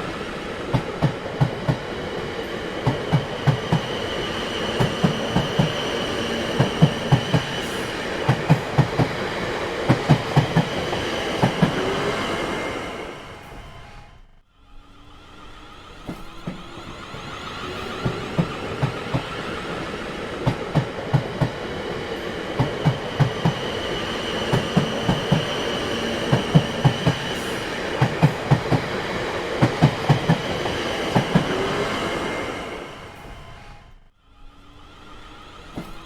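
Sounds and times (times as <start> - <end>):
train wheels clickety-clack: 0.0 - 13.9, 15.8 - 33.7, 35.4 - 36.0.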